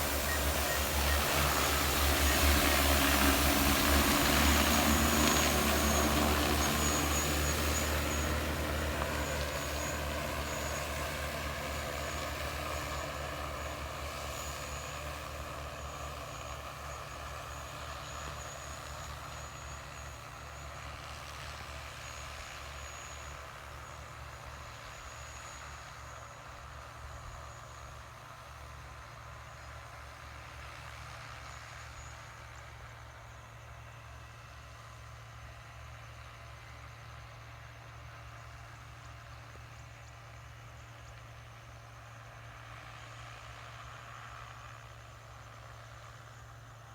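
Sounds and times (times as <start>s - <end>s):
drone motors and propellers: 0.0s - 46.9s.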